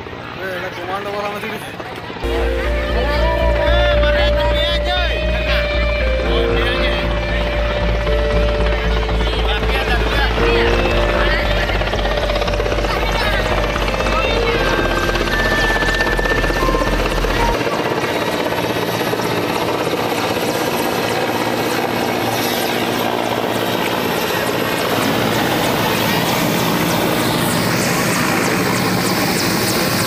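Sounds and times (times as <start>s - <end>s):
helicopter rotor and engines: 0.0s - 30.0s.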